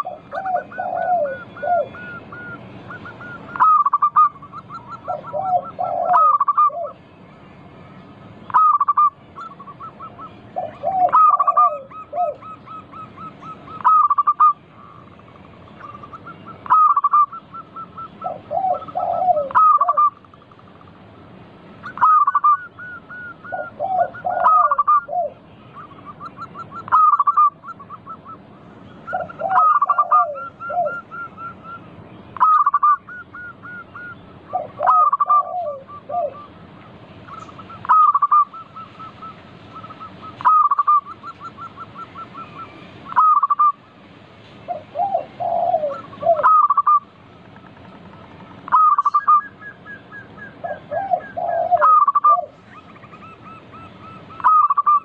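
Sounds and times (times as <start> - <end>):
doves cooing: 0.0 - 7.0, 8.5 - 43.8, 44.5 - 55.0.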